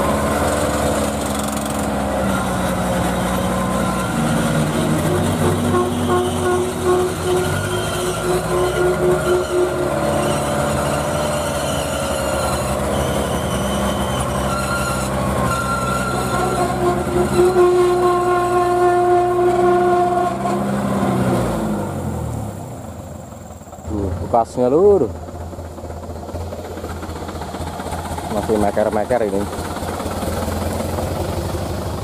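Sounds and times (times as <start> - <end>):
diesel truck engine labouring: 0.0 - 32.0.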